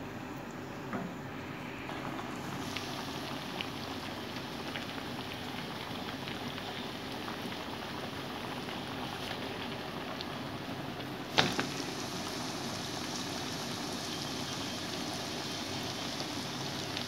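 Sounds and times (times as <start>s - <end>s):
sauce bubbling in a pan: 1.9s - 17.0s.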